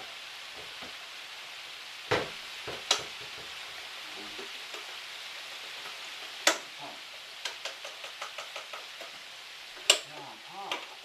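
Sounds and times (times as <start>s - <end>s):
meatballs sizzling in a frying pan: 0.0s - 11.0s.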